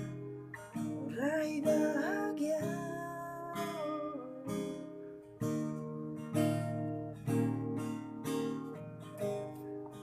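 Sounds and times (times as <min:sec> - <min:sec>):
acoustic guitar strummed chords: 0:00.0 - 0:10.0.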